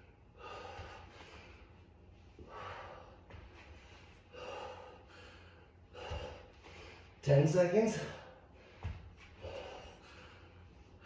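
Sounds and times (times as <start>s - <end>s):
man breathing hard: 0.0s - 7.2s, 7.8s - 11.0s.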